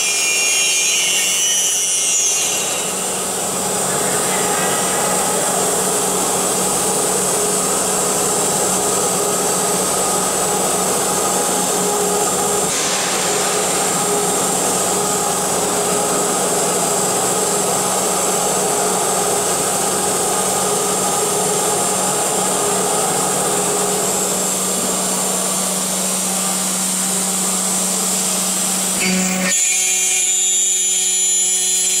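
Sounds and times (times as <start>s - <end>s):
metal cutting grinding noise: 0.0s - 32.0s
spindle high-pitched whine: 0.0s - 32.0s.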